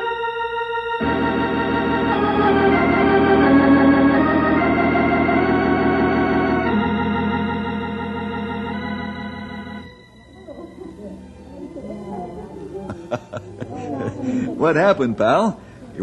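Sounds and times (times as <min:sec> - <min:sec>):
organ chords: 0:00.0 - 0:15.2.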